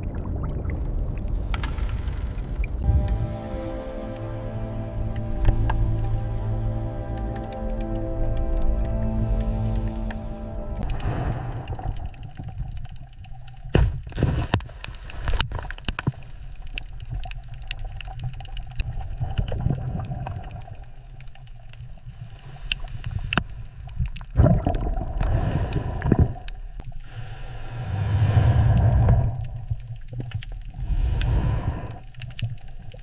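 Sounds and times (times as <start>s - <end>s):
water gurgling: 0.0s - 22.4s, 23.8s - 33.0s
low water rumble: 0.0s - 33.0s.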